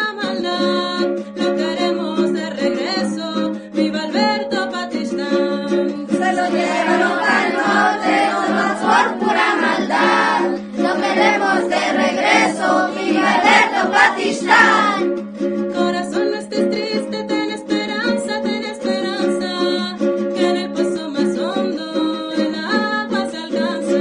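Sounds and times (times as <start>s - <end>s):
person singing: 0.0s - 15.1s, 15.7s - 24.0s
plucked string accompaniment: 0.0s - 24.0s.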